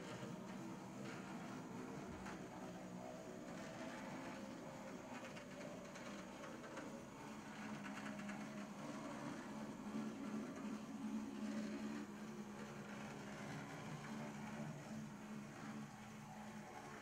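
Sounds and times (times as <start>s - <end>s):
model train motor humming: 0.0s - 17.0s.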